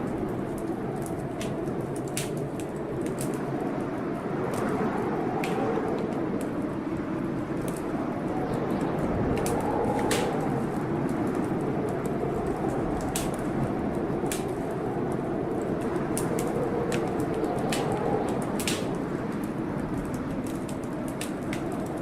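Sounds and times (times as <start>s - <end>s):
wind and rain storm: 0.0s - 22.0s
wood fire crackling: 0.0s - 22.0s.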